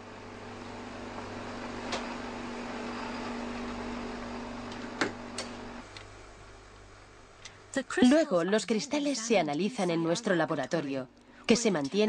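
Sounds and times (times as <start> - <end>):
freezer humming: 0.0 - 10.6.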